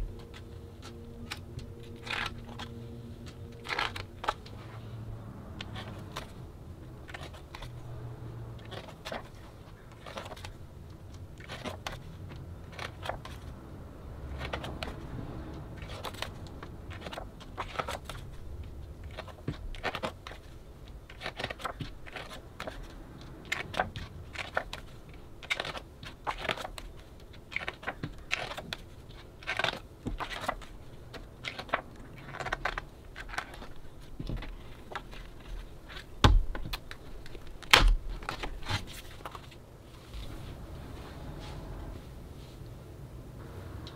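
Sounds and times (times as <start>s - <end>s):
pages turning: 0.0s - 41.6s
paper rustling: 0.0s - 41.6s.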